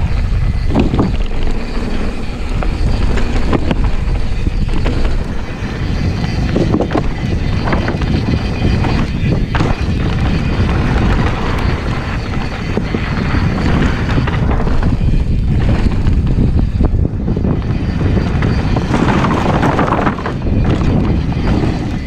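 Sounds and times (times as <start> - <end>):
bike knocks and rattles: 0.0 - 22.0
bike tyres rolling on dirt: 0.0 - 22.0
wind buffeting microphone: 0.0 - 22.0.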